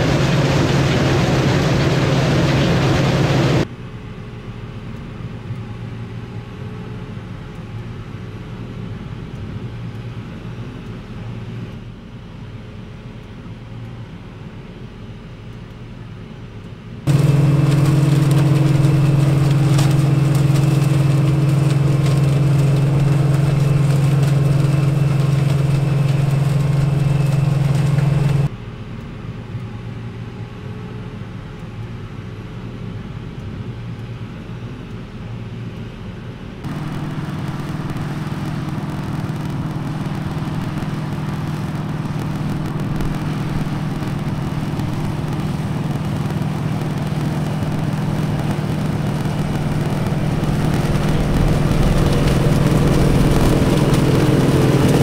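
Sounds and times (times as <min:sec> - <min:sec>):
harvester engine and machinery drone: 0:00.0 - 0:55.0.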